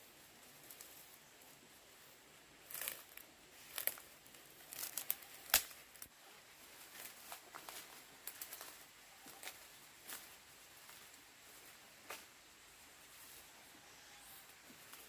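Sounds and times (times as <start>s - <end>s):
rustling and crinkling: 0.0s - 12.4s, 13.1s - 15.0s.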